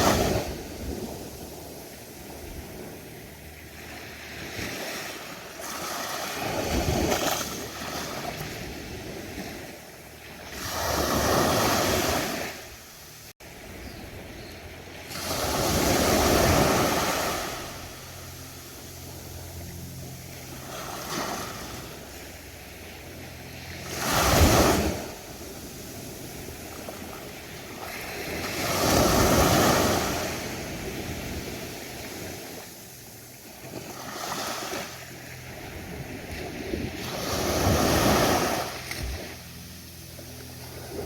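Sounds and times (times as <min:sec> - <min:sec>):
ocean waves breaking on beach: 0:00.0 - 0:41.0.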